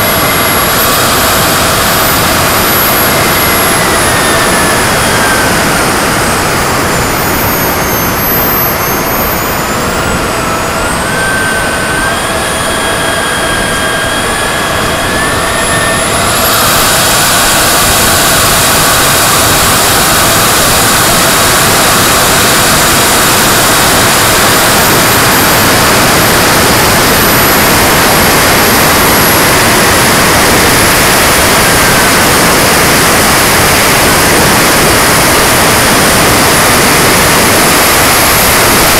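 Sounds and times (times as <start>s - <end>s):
rush of air noise: 0.0s - 38.9s
turbine engine whine: 0.0s - 38.9s.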